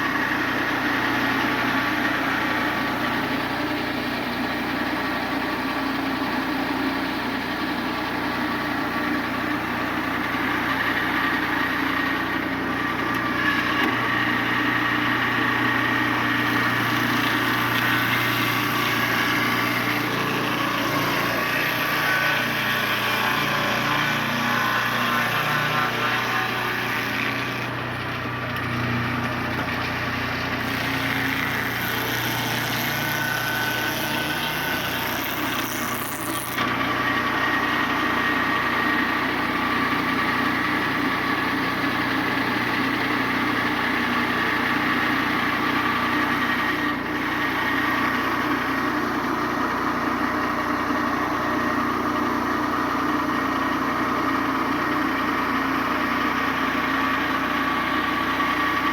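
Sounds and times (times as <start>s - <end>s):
sawmill motor running: 0.0s - 58.9s.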